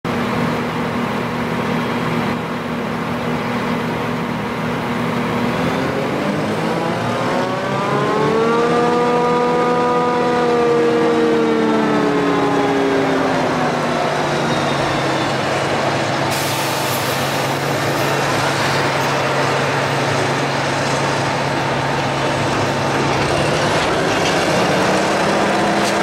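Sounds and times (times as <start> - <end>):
harvester engine droning: 0.1 - 26.0.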